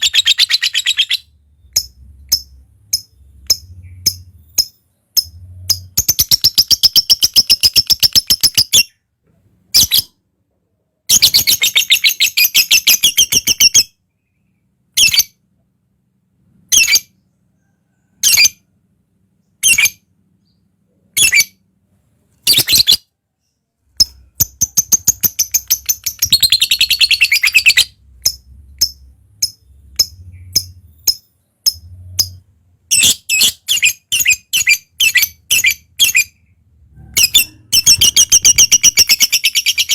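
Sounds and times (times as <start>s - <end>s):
bird chirps: 0.0s - 9.1s, 11.0s - 15.4s, 16.7s - 18.7s, 19.4s - 21.7s, 22.3s - 39.9s.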